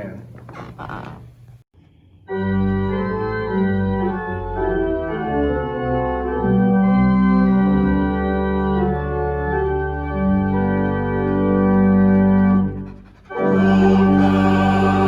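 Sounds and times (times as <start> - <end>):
organ playing sustained chords: 2.3 - 15.0.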